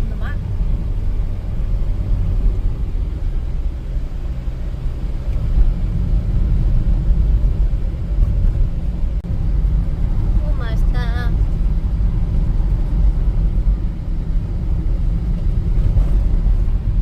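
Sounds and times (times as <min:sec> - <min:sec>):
car interior road and engine drone: 0:00.0 - 0:17.0.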